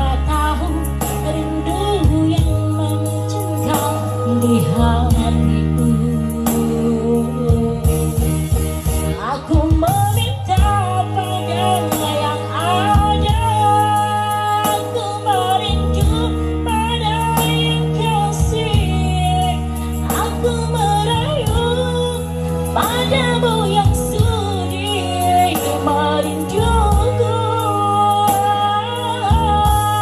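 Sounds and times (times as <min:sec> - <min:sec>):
instrumental pop ballad: 0:00.0 - 0:30.0.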